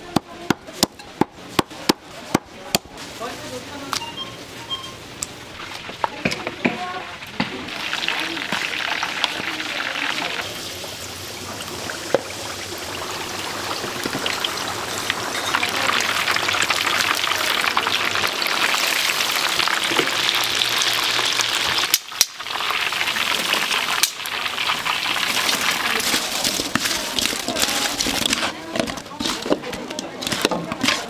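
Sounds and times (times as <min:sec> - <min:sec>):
chicken deep-frying in oil: 0:05.0 - 0:31.0.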